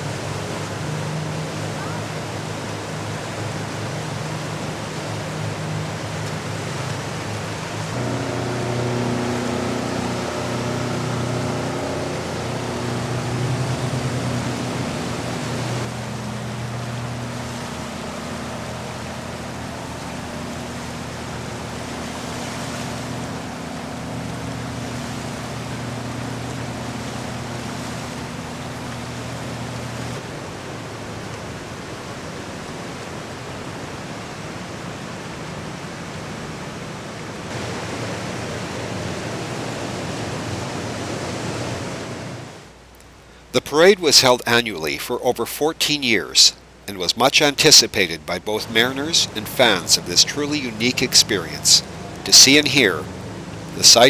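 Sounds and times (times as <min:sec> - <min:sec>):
diesel engines humming: 0:00.0 - 0:30.2, 0:37.5 - 0:54.0
wind and water hiss: 0:00.0 - 0:54.0.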